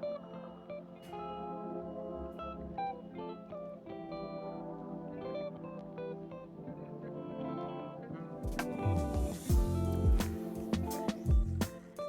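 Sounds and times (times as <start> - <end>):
plucked guitar music with echo: 0.0 - 12.0.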